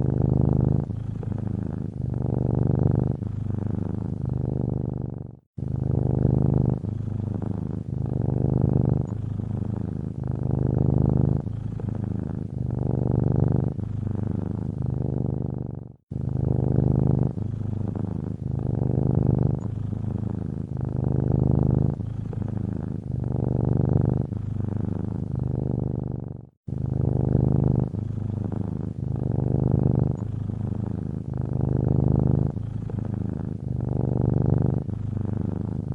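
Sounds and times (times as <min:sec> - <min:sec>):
cat purring: 0:00.0 - 0:35.9.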